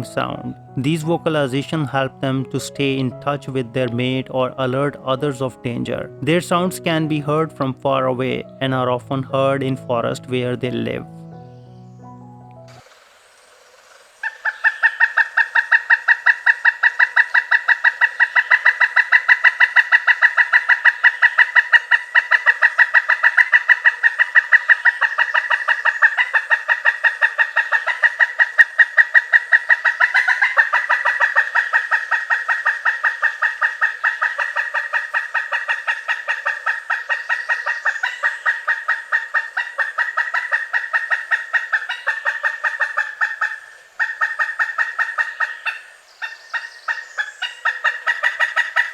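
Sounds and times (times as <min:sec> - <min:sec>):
woodpecker cackling call: 0:00.0 - 0:48.9.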